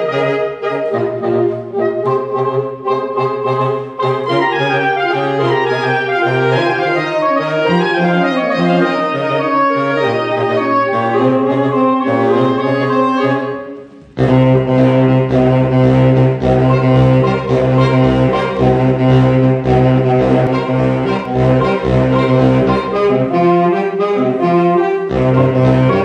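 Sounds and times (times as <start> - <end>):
low baritone saxophone notes: 0.0 - 26.0
saxophone quartet playing chords: 0.0 - 26.0.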